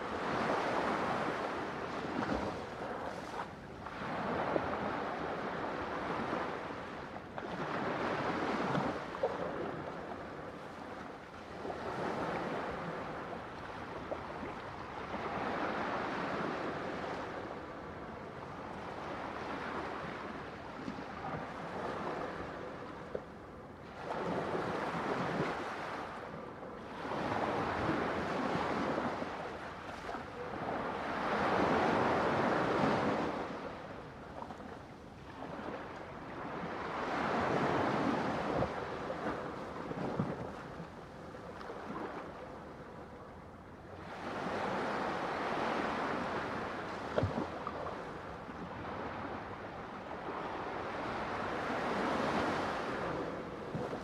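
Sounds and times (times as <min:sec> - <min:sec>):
ocean waves breaking on shore: 0:00.0 - 0:23.1, 0:23.8 - 0:54.0.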